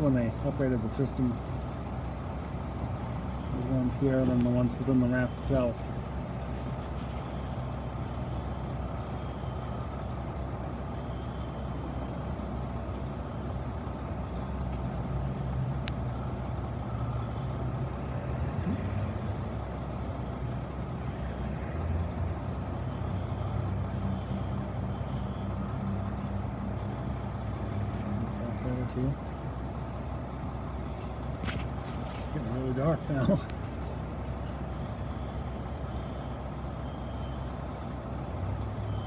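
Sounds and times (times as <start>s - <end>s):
truck engine idling: 0.0s - 39.0s.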